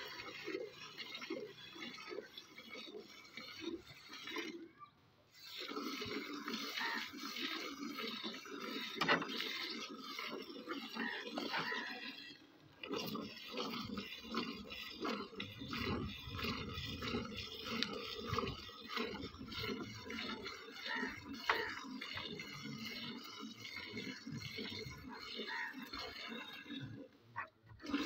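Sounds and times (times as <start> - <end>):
milk squirting into metal pail: 0.0 - 28.0.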